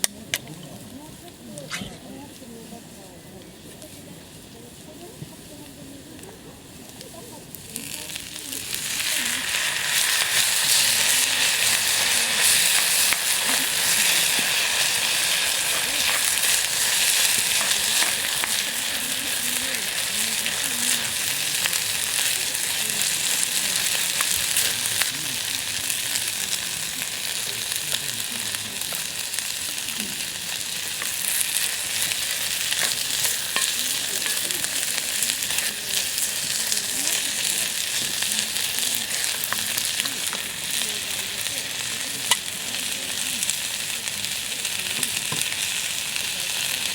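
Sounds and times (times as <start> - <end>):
food sizzling in a skillet: 0.0 - 46.9.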